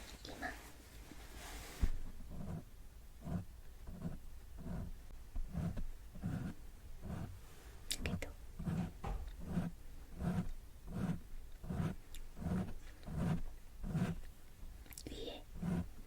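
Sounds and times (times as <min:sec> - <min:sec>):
close-miked strokes: 0:00.0 - 0:14.3, 0:15.1 - 0:16.0.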